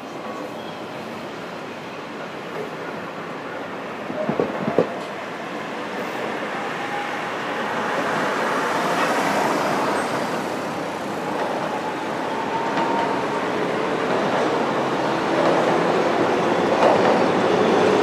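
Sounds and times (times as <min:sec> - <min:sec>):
tram wheels rumbling on rails: 0:00.0 - 0:18.0
road traffic: 0:01.4 - 0:18.0.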